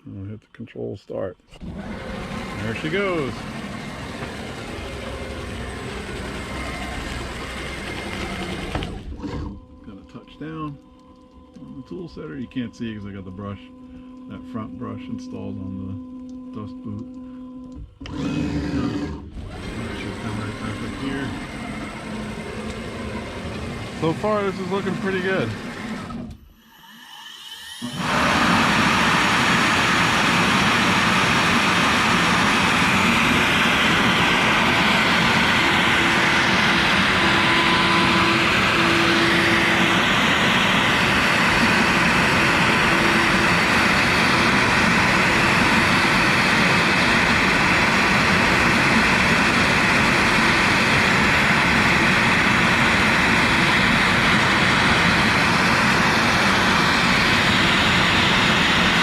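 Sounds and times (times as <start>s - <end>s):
router spindle carving plastic: 1.5s - 10.7s, 18.0s - 26.4s, 27.4s - 59.0s
dust collection vacuum: 1.5s - 59.0s.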